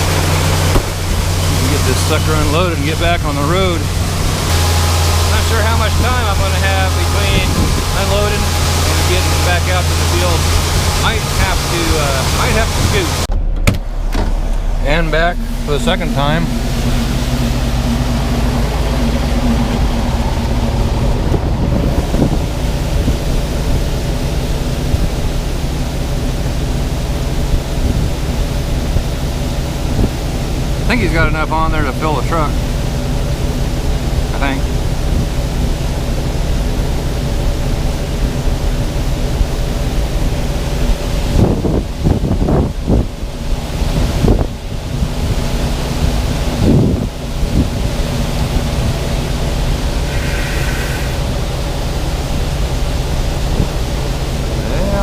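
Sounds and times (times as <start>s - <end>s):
steady rushing noise: 0.0s - 55.0s
truck engine rumbling: 0.0s - 55.0s.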